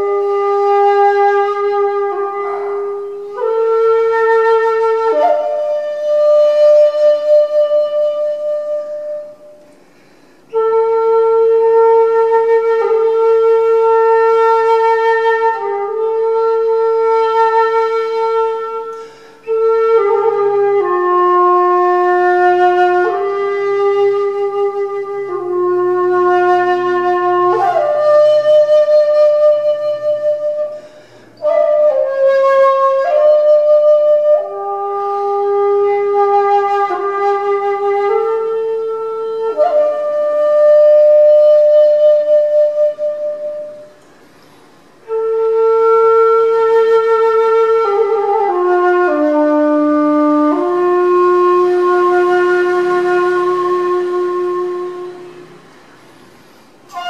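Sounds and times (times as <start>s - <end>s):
bamboo flute melody: 0.0s - 56.0s, 56.7s - 57.0s.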